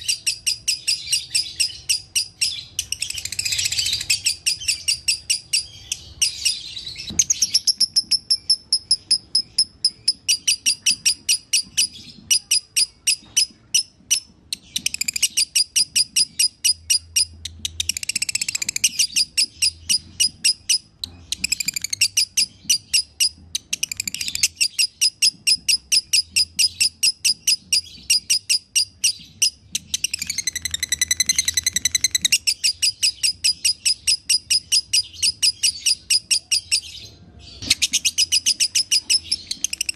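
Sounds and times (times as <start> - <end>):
bird chirping and warbling: 0.0 - 39.9.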